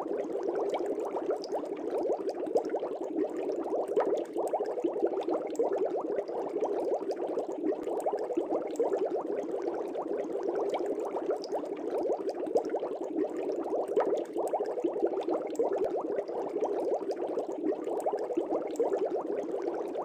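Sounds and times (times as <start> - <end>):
aquarium bubbles underwater: 0.0 - 20.0.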